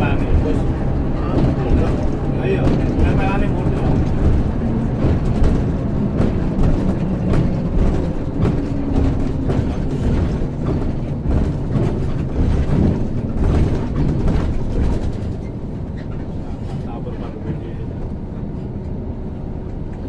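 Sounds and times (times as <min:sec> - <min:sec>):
bus engine and road rumble: 0:00.0 - 0:20.0
rattles and clicks of bus fittings: 0:00.0 - 0:20.0.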